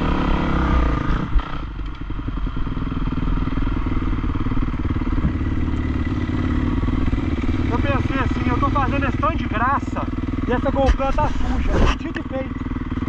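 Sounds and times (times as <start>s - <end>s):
motocross bike engine running: 0.0s - 13.0s.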